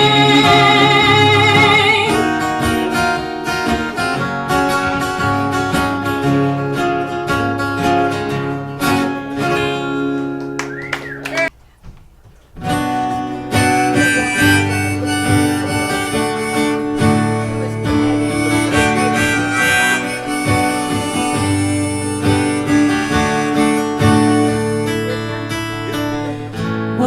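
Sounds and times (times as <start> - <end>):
harmonica: 0.0 - 10.0, 12.8 - 26.8
acoustic guitar: 0.0 - 27.0.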